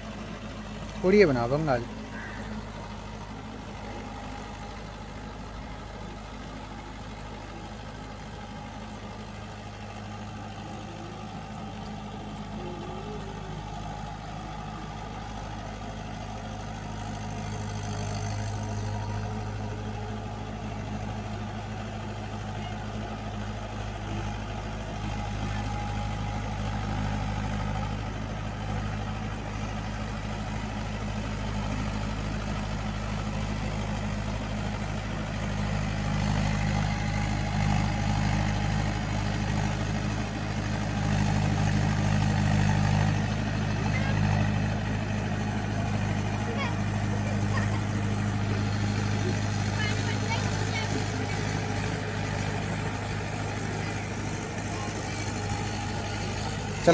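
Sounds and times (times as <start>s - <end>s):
tractor engine humming: 0.0s - 56.9s.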